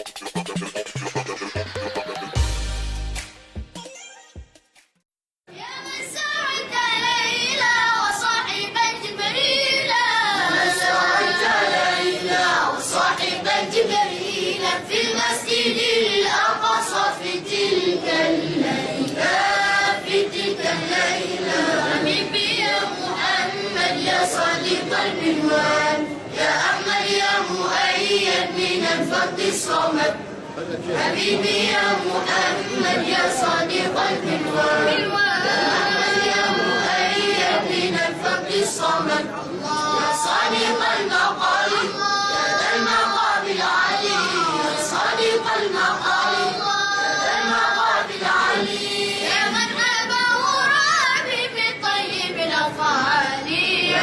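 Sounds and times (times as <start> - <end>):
children singing a devotional song: 5.5 - 54.0.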